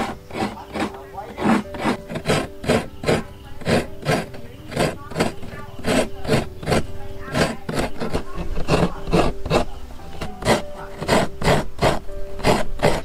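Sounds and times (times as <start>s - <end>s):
coconut scraping on metal blade: 0.0s - 13.0s.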